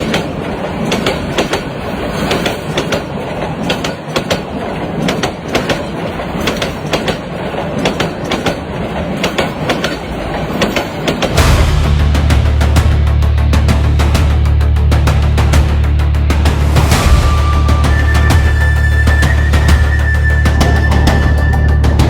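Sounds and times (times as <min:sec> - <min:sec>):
train wheels clattering: 0:00.0 - 0:14.5, 0:15.5 - 0:22.0.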